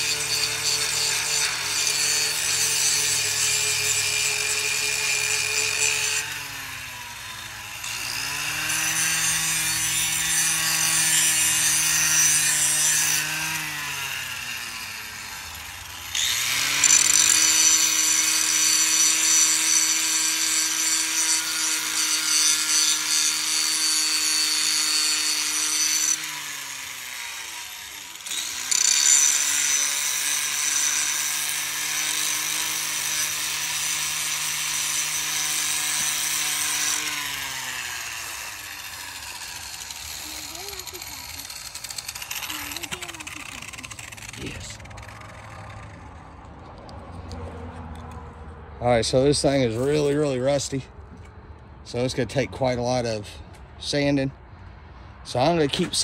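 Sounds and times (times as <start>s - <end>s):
sander motor winding down: 0.0s - 46.6s
electric sander scraping metal: 0.0s - 48.2s, 49.1s - 50.8s.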